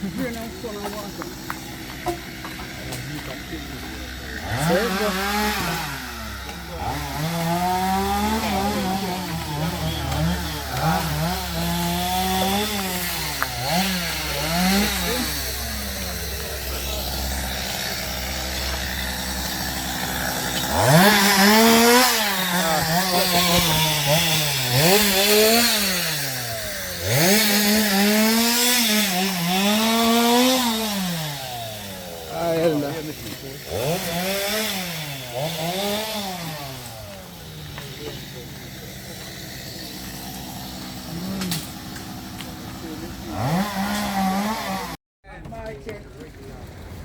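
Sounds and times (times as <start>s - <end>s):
chainsaw engine revving: 0.0s - 45.0s.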